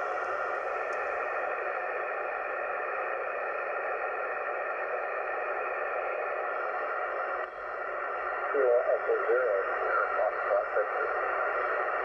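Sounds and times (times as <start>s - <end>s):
radio band noise hiss: 0.0s - 12.0s.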